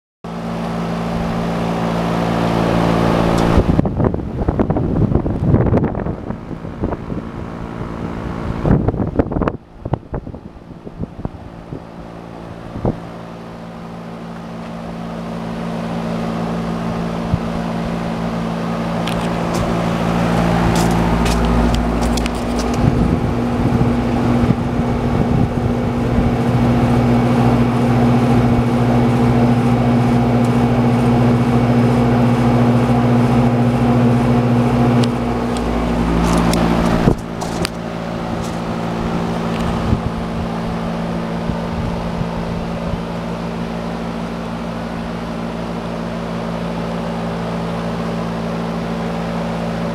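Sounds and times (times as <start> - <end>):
heat pump humming: 0.3 - 49.9.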